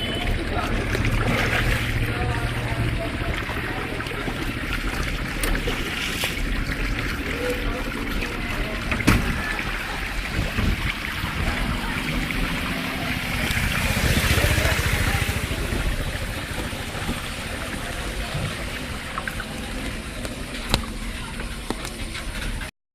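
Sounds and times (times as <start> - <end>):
floodwater sloshing and trickling: 0.0 - 22.7.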